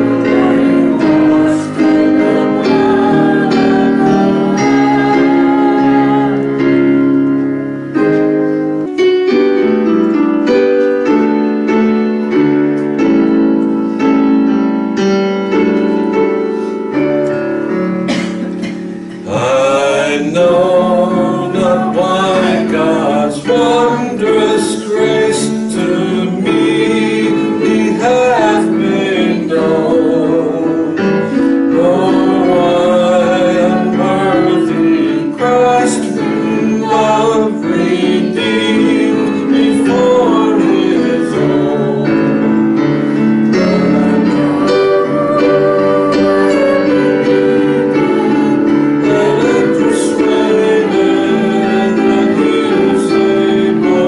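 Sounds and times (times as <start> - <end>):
digital piano chords: 0.0 - 54.0.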